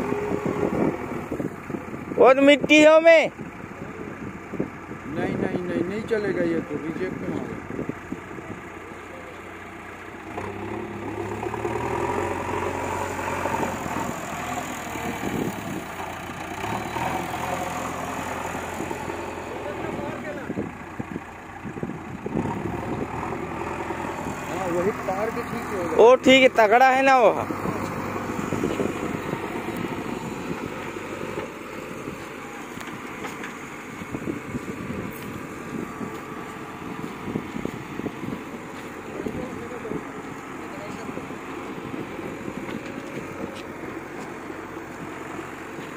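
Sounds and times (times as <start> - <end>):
backhoe diesel engine running: 0.0 - 45.9.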